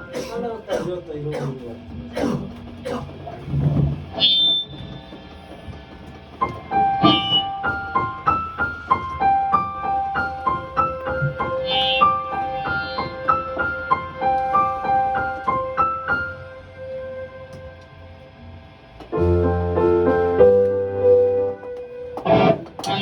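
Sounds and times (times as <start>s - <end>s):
electric keyboard melody: 4.3s - 23.0s.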